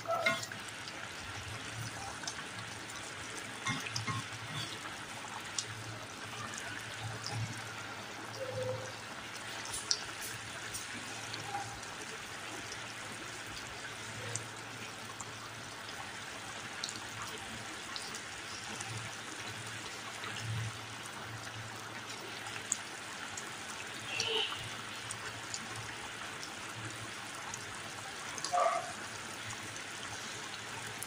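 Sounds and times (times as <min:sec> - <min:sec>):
curry simmering and bubbling: 0:00.0 - 0:31.0.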